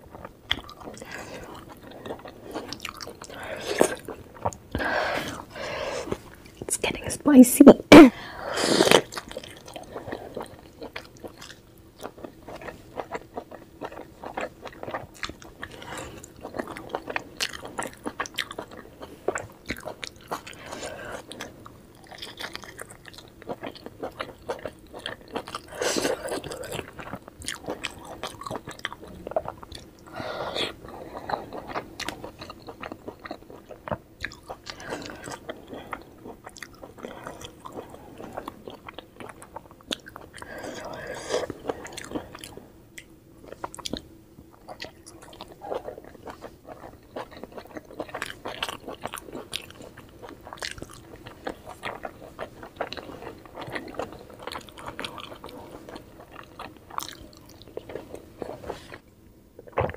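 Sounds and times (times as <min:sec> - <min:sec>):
chewing with mouth clicks: 0:00.1 - 0:06.7, 0:08.8 - 0:59.9.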